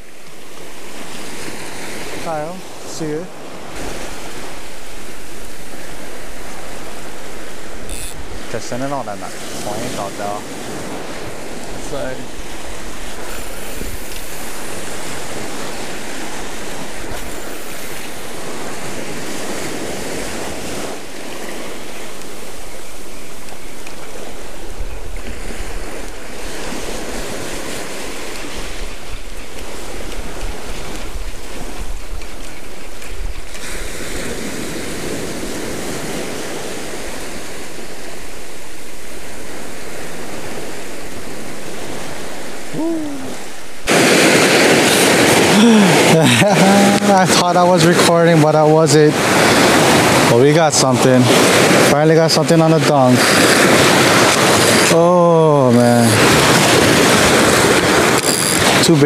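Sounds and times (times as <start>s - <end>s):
surf breaking on sand and rocks: 0.0s - 59.0s
wind buffeting microphone: 0.0s - 59.0s.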